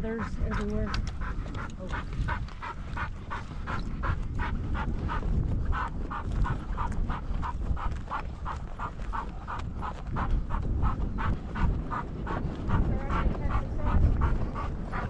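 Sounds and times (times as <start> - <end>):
low wind rumble: 0.0 - 15.0
rapid panting: 0.0 - 15.0.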